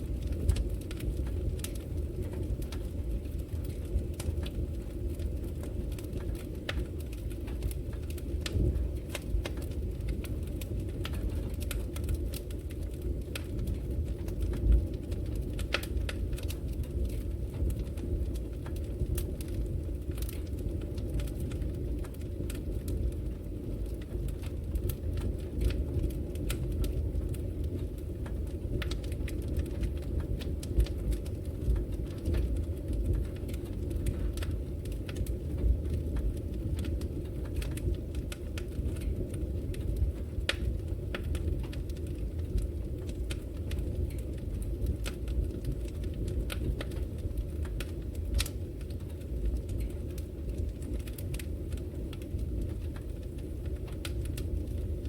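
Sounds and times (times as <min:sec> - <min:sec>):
log fire crackling and popping: 0:00.0 - 0:55.0.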